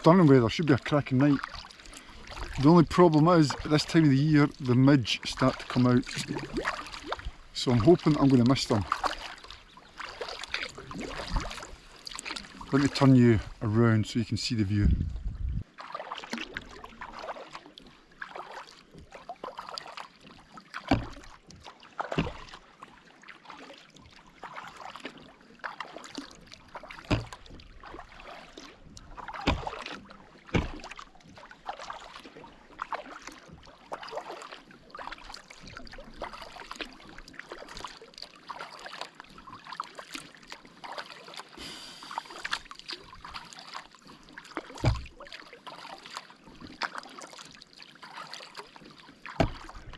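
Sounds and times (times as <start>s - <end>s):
water dripping off paddle: 0.0s - 13.3s, 15.8s - 49.9s
paddle splashes: 0.0s - 49.9s
water washing along boat: 0.0s - 49.9s
paddle knocking against hull: 0.3s - 3.8s, 5.2s - 13.0s, 15.8s - 22.6s, 23.5s - 49.9s.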